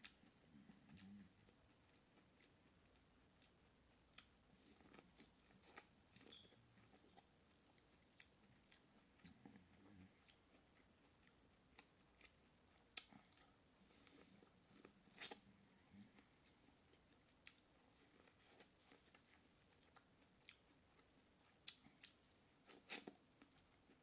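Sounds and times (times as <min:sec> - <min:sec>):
soft chewing and lip smacks: 0:00.0 - 0:24.0.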